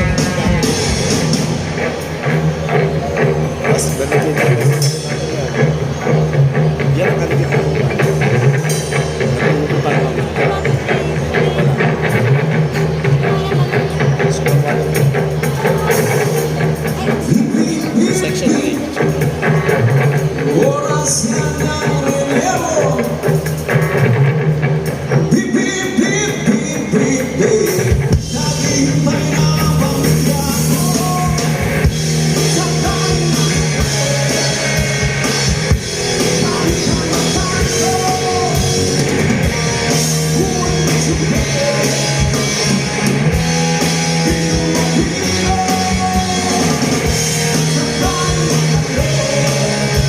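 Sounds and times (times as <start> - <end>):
bass line: 0.0 - 50.0
drum kit: 0.0 - 50.0
electric guitar: 0.0 - 50.0
live rock band playing: 0.0 - 50.0.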